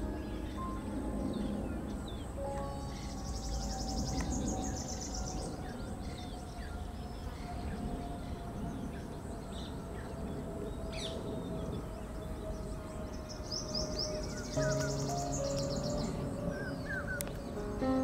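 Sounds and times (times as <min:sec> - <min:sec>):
birds trilling and chirping: 0:00.0 - 0:18.0
low background rumble: 0:00.0 - 0:18.0.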